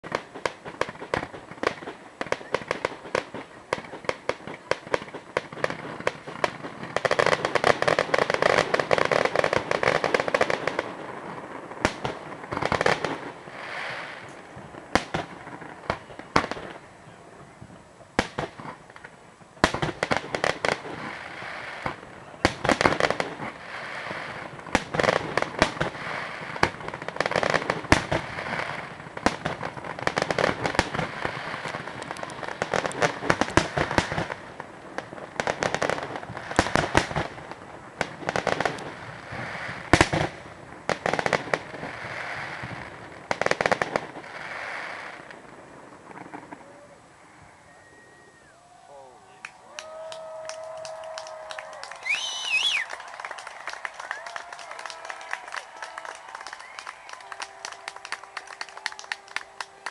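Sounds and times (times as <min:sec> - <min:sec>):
fireworks bangs: 0:00.0 - 0:46.9, 0:49.8 - 0:59.9
fireworks crackling: 0:00.0 - 0:47.8, 0:48.4 - 0:59.9.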